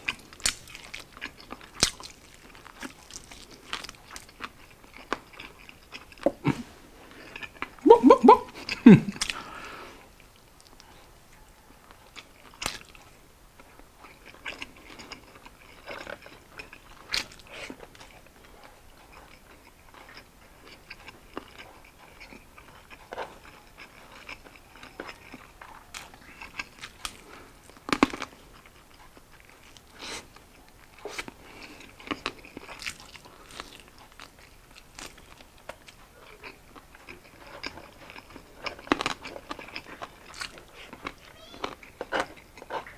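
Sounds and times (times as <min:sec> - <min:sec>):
chewing and biting food: 0:00.0 - 0:42.9.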